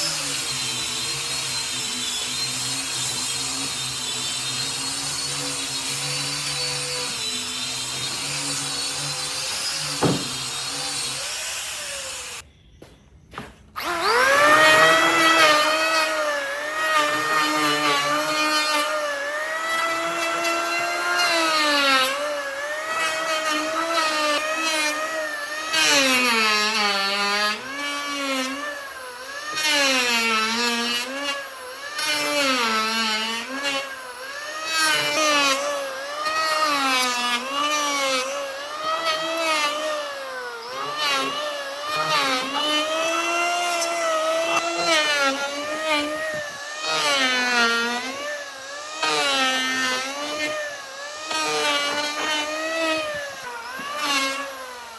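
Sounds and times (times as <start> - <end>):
electric power tool motor whining: 0.0 - 12.4, 13.7 - 54.9.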